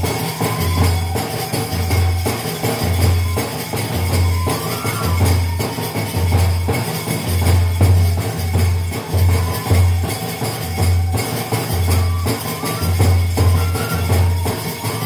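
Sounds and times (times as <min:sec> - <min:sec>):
jingling tambourine-like percussion: 0:00.0 - 0:15.0.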